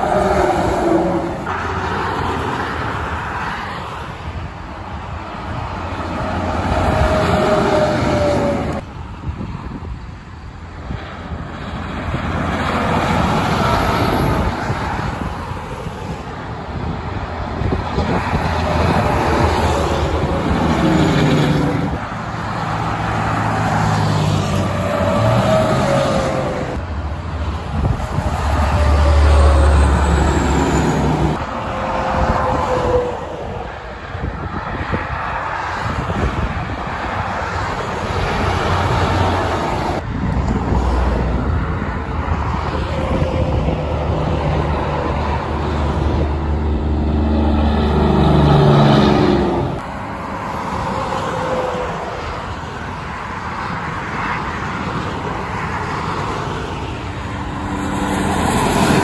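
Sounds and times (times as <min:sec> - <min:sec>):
diesel truck engines rumbling: 0:00.0 - 0:59.0
tyre noise of passing vehicles: 0:00.0 - 0:59.0.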